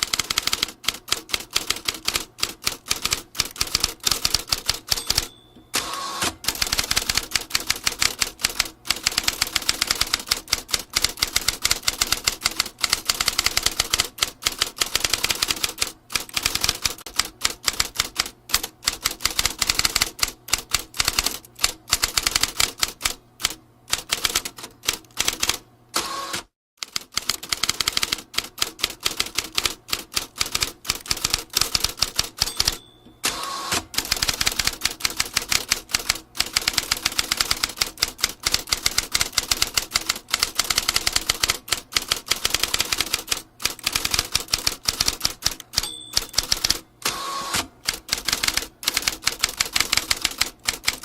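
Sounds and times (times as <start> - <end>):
typewriter keys typing: 0.0 - 25.6, 26.8 - 51.0.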